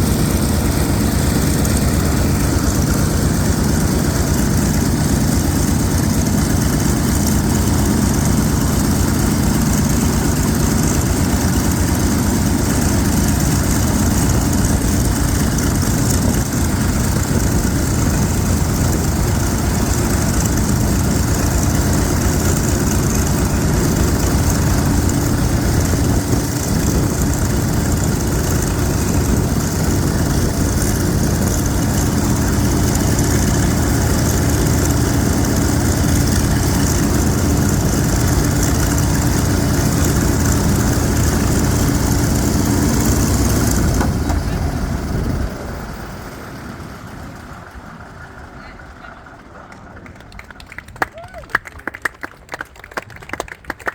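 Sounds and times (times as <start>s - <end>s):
radial aircraft engine running: 0.0s - 53.9s.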